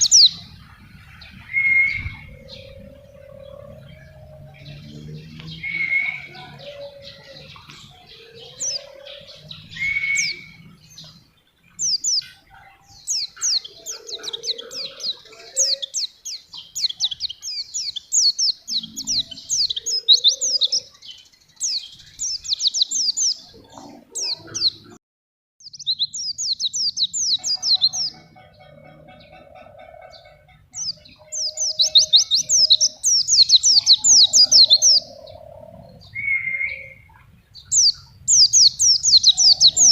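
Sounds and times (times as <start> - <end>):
bird singing rapid high trills: 0.0 - 23.5, 30.1 - 39.9.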